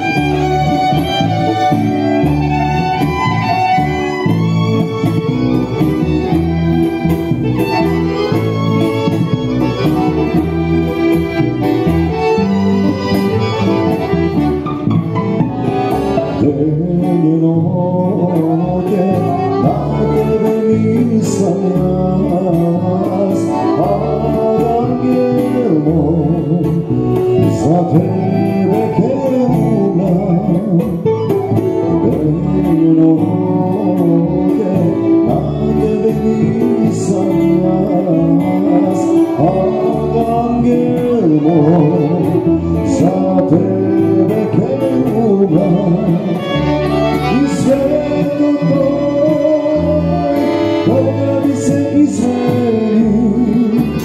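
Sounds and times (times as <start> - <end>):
strummed guitar: 0.0 - 54.0
upright bass: 0.0 - 54.0
violin: 0.0 - 54.0.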